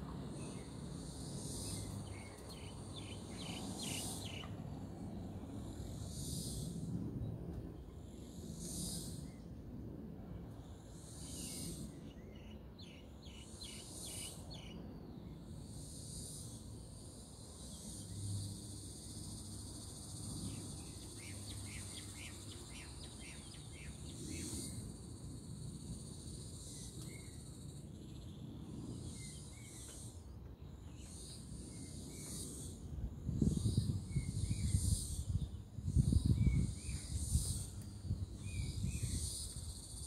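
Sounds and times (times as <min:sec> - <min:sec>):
insect drone: 0:00.0 - 0:40.0.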